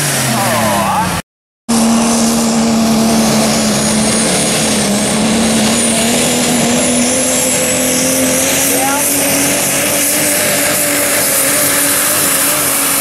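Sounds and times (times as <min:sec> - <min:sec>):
diesel truck engine at full power: 0:00.0 - 0:13.0.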